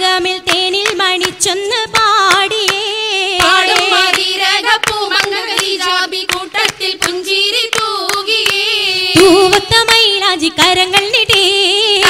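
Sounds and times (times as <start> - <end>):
rhythmic hand claps: 0.0 - 12.0.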